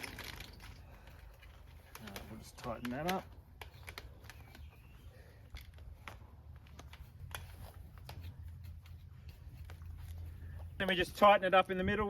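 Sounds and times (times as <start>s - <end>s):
fencing wire clicks and scrapes: 0.0s - 11.3s.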